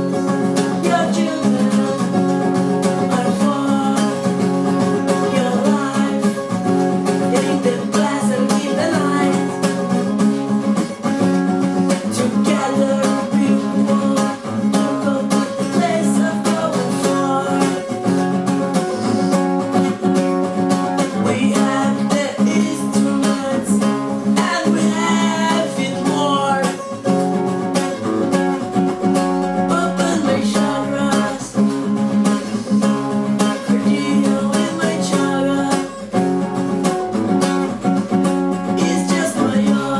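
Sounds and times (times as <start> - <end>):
strummed acoustic guitar: 0.0 - 39.9.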